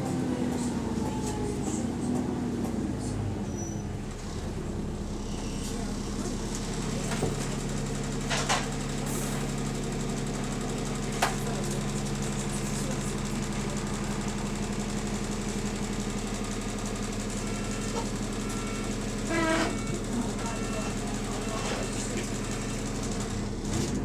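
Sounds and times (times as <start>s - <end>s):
bus diesel engine idling: 0.0s - 24.0s.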